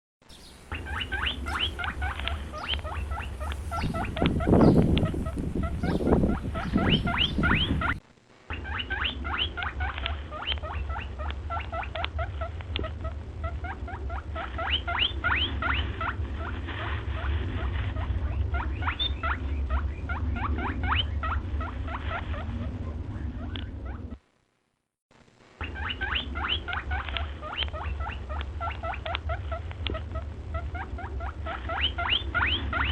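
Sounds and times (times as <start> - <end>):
steady low hum: 0.2 - 32.9
small animals squeaking: 0.3 - 24.2, 25.6 - 32.9.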